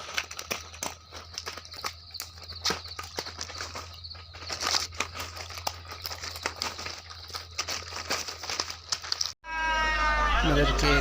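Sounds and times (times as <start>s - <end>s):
irregular crackling and clicking: 0.0s - 9.4s.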